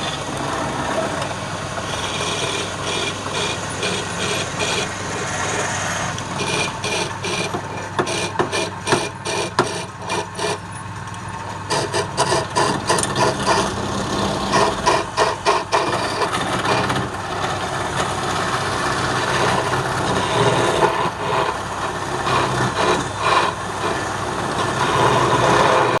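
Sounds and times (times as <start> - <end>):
tool scraping spinning wood: 0.0 - 26.0
wood lathe motor hum: 0.0 - 26.0.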